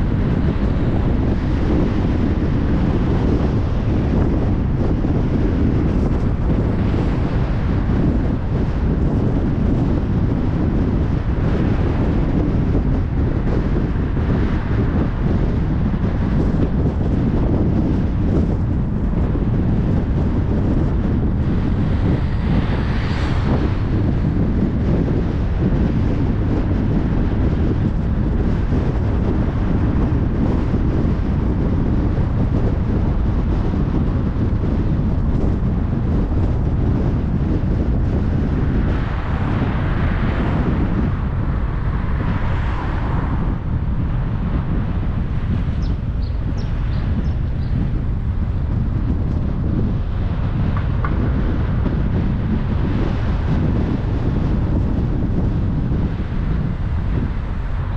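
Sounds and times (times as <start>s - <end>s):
car road noise on motorway: 0.0s - 57.9s.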